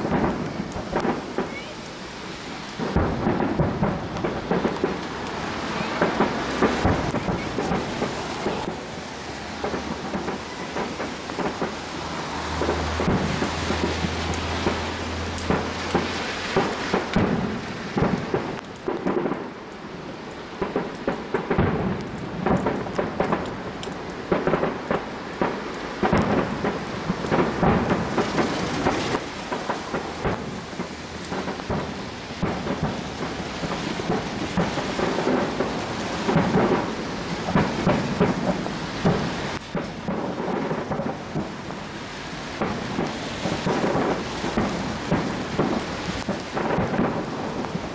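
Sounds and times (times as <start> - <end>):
fireworks booming and crackling: 0.0 - 47.9.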